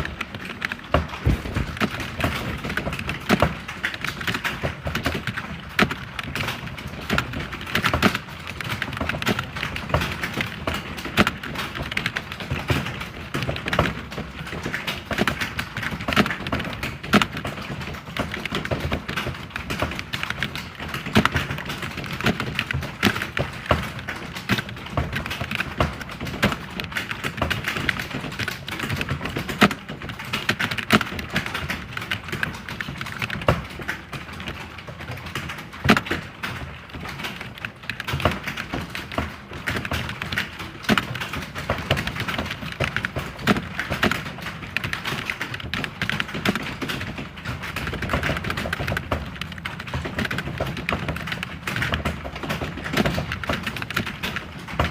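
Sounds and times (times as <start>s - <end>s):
keyboard typing: 0.0s - 54.9s.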